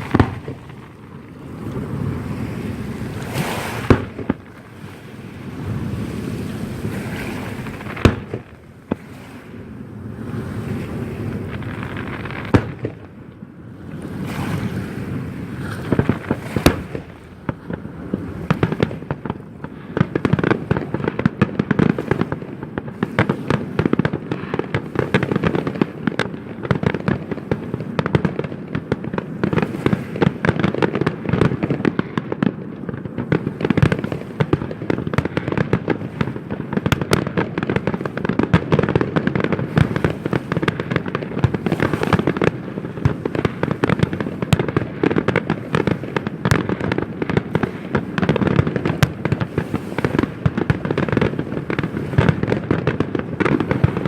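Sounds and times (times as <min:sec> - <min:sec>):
firework bangs: 0:00.0 - 0:54.0
firework crackling: 0:00.0 - 0:54.0.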